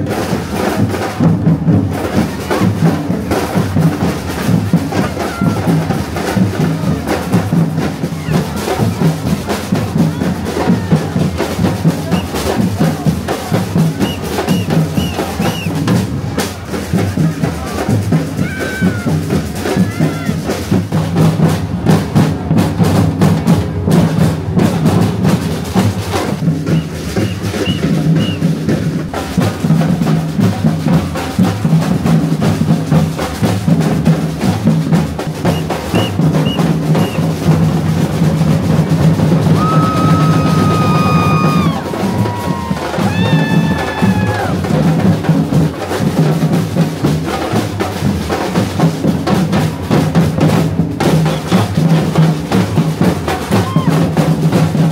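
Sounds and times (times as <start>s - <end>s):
drum line playing: 0.0s - 54.9s.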